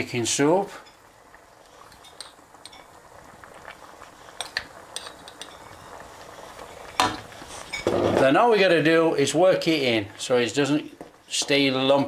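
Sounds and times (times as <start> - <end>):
soup simmering in a pan: 0.0 - 12.0.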